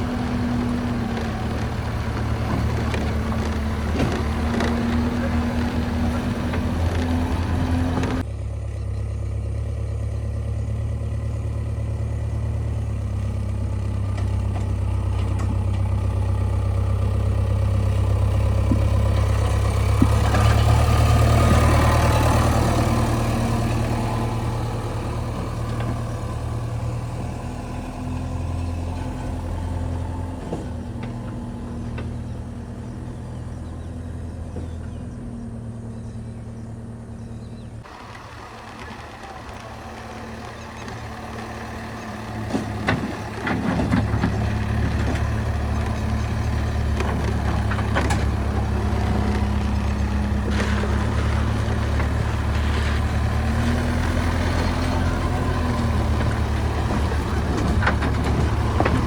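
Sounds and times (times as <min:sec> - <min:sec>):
heavy machinery diesel engine running: 0:00.0 - 0:59.0.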